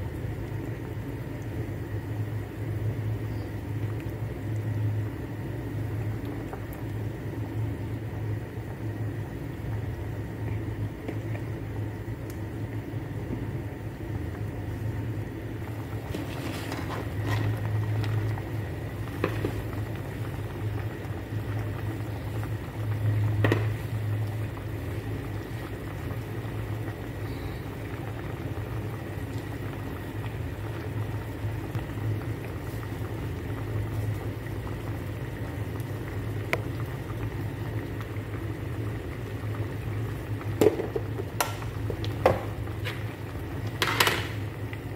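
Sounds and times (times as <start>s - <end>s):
constant low hum: 0.0s - 44.9s
soup bubbling in pot: 0.0s - 44.9s.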